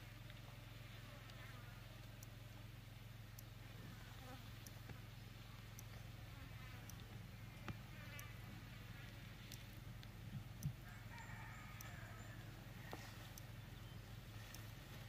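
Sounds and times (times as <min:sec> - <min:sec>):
flies buzzing faintly: 0:00.0 - 0:15.0.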